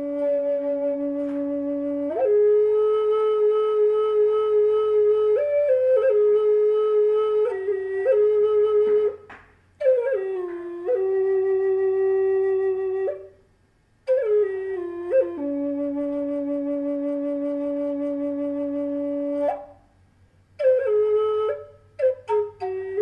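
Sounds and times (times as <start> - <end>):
solo flute music: 0.0 - 23.0.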